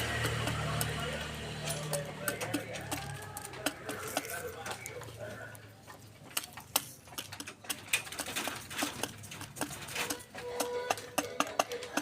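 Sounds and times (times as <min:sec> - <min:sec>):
pigeons pecking grain: 0:00.0 - 0:12.0.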